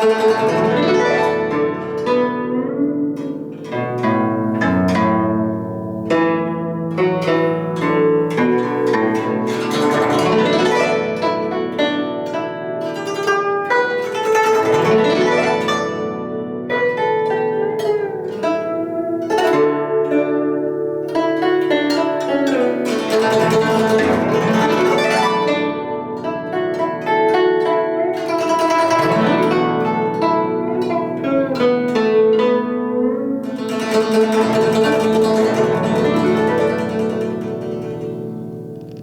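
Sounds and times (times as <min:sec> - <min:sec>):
plucked string instrumental music: 0:00.0 - 0:39.0.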